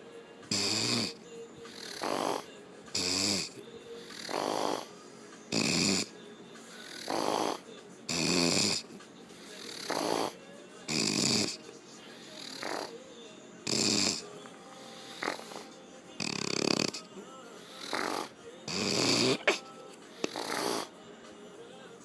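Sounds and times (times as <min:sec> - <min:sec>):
woman snoring heavily: 0:00.5 - 0:13.0, 0:13.6 - 0:21.0.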